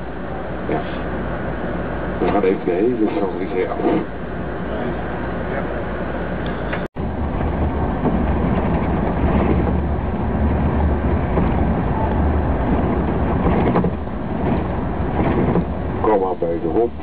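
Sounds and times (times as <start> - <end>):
coach engine rumble: 0.0 - 17.0
road noise hiss: 0.0 - 17.0.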